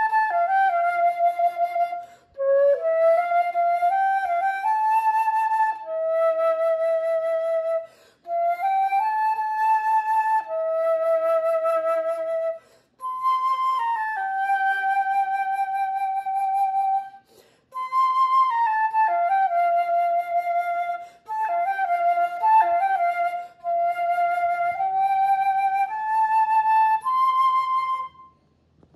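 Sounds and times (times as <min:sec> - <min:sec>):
solo flute melody: 0:00.0 - 0:28.6.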